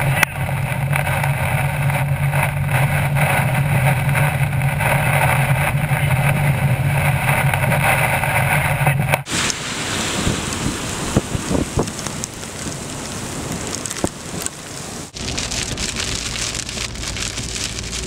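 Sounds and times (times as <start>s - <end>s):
road noise on wet road: 0.0s - 18.0s
vehicle engine drone: 0.0s - 18.0s.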